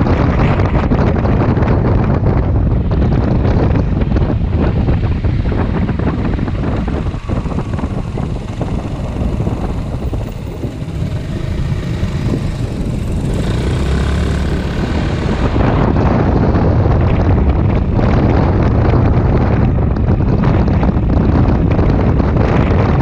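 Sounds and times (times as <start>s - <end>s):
wind buffeting microphone: 0.0s - 23.0s
scooter engine running: 2.6s - 22.8s.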